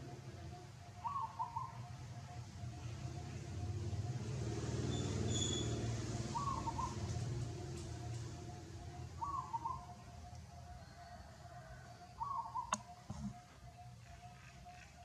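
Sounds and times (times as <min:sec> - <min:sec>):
dove cooing: 0:00.0 - 0:04.6, 0:05.8 - 0:15.0.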